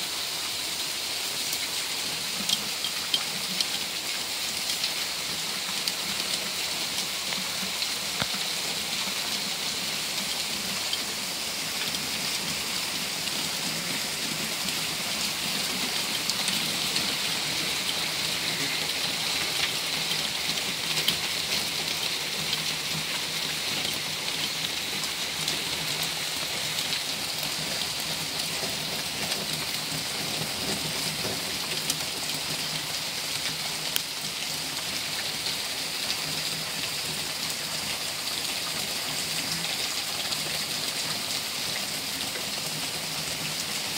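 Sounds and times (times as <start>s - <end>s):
heavy rain hitting paving and leaves: 0.0s - 43.9s.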